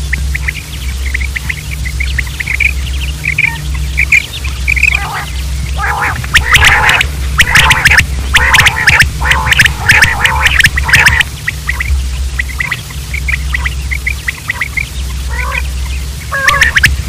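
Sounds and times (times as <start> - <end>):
quails calling: 0.0 - 17.0
steady low hum: 0.0 - 17.0.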